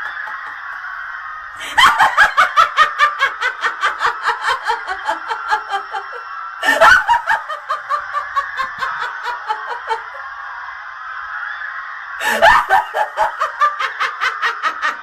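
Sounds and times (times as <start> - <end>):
woman laughing villainously: 0.0 - 0.9, 1.6 - 10.3, 12.2 - 15.0.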